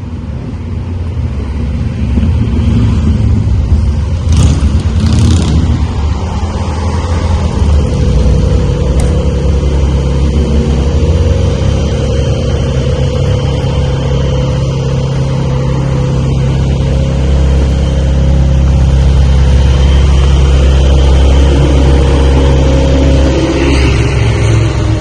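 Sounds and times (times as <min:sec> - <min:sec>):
engine low rumble: 0:00.0 - 0:25.0.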